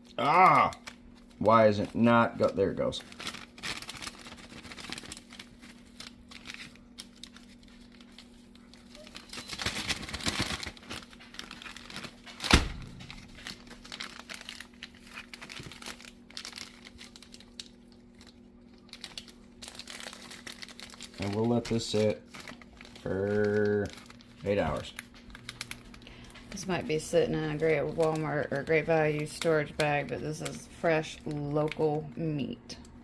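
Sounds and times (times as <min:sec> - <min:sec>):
plastic bag crinkling: 0:00.0 - 0:33.0.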